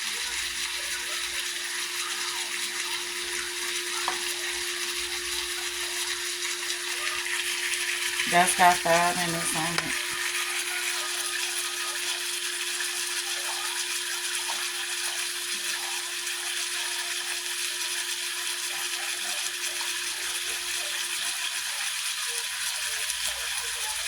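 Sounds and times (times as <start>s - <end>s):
steak sizzling in a pan: 0.0s - 24.0s.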